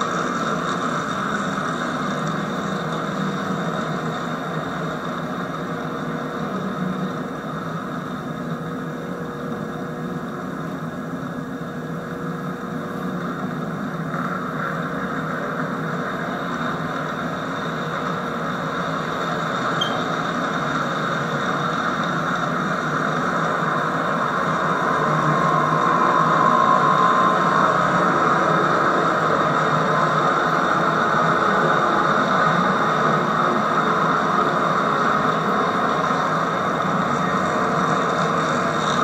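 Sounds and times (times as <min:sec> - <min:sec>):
model train rolling on track: 0:00.0 - 0:39.0.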